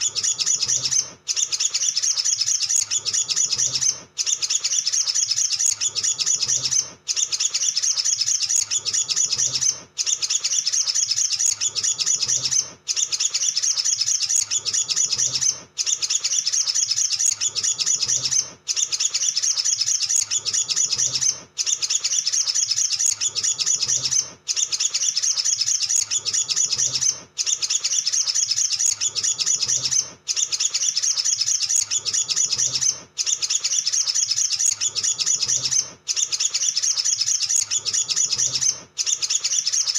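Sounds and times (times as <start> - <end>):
bird singing high chirps and twitters: 0.0 - 39.9.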